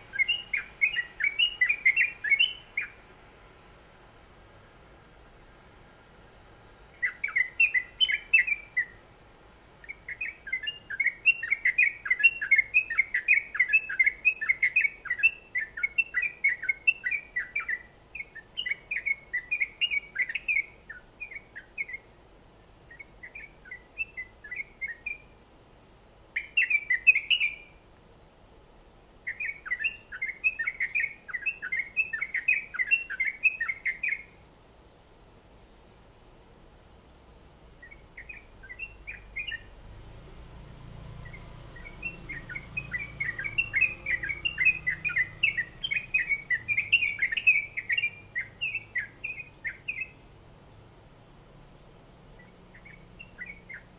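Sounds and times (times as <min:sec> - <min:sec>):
songbird chattering song: 0:00.0 - 0:53.9.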